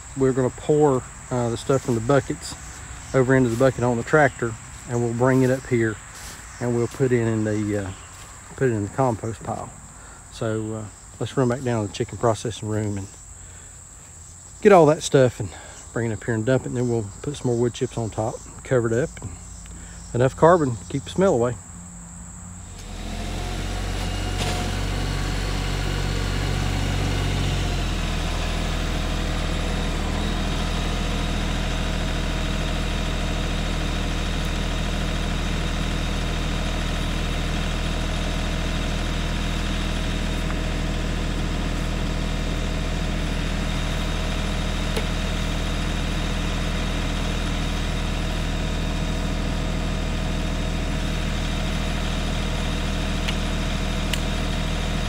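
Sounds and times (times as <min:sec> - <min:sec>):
tractor engine slowing to idle: 0:00.0 - 0:55.0.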